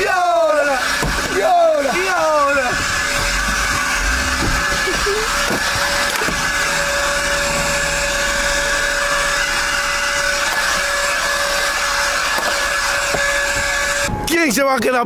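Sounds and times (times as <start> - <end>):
leaf blower running: 0.0 - 14.1.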